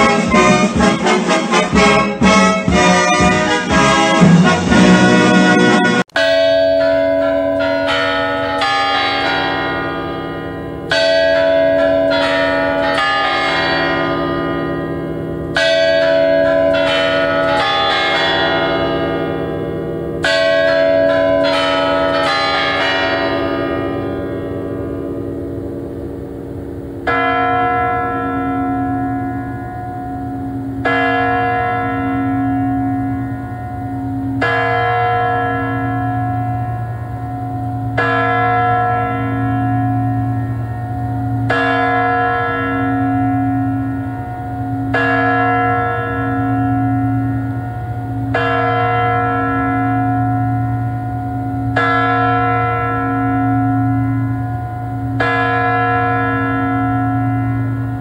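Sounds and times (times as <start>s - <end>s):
clock bell striking: 0.0s - 58.0s.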